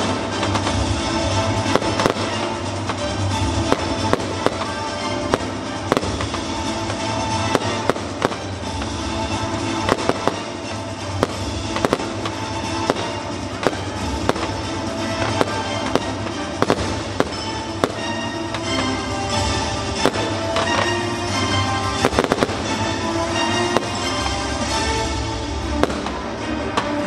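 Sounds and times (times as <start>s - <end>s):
fireworks bangs: 0.0s - 27.0s
music: 0.0s - 27.0s.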